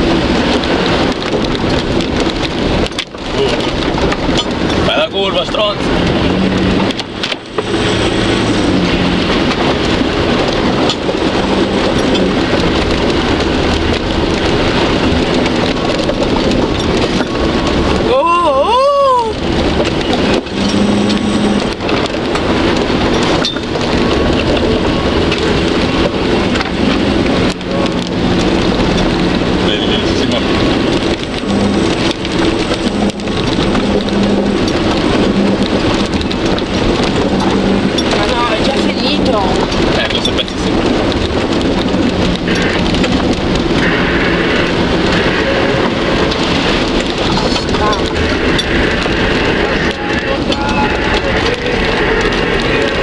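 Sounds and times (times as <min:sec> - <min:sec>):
engine drone: 0:00.0 - 0:53.0
splashing and road noise: 0:00.0 - 0:53.0.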